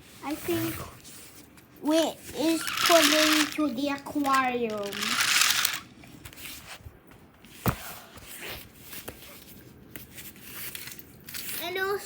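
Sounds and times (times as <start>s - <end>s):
handling and rustling noises: 0.0s - 12.0s.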